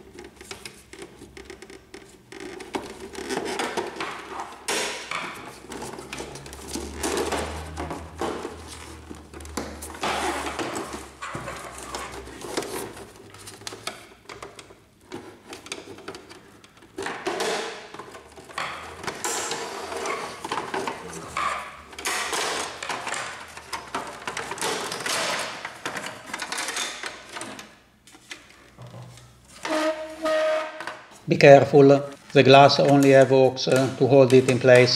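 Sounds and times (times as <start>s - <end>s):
plastic parts clicking and scraping: 0.0s - 30.0s, 32.0s - 34.9s.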